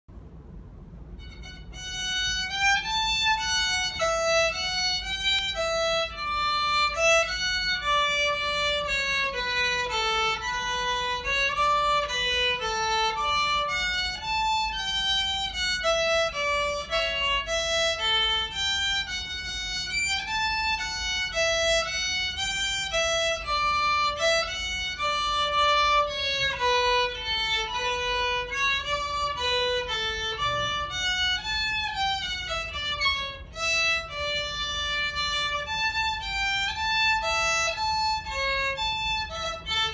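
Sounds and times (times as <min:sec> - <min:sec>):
solo violin playing a march: 0:01.2 - 0:39.9.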